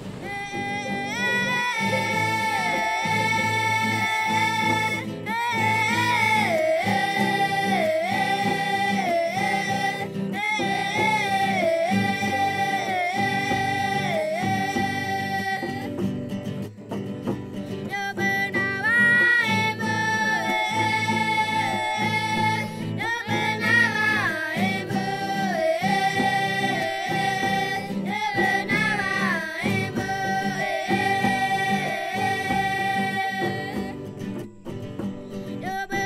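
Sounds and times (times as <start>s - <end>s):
person singing: 0.0s - 16.2s, 17.8s - 34.5s, 35.4s - 36.0s
acoustic guitar strumming: 0.0s - 36.0s.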